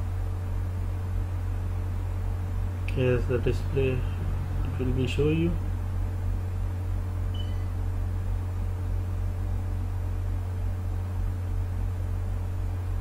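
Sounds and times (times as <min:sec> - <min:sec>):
low electrical hum with hiss: 0:00.0 - 0:13.0.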